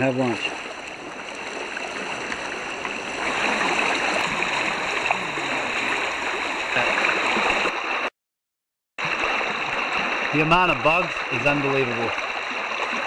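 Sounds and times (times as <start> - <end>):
stream water rushing over rocks: 0.0 - 8.1, 9.0 - 13.0.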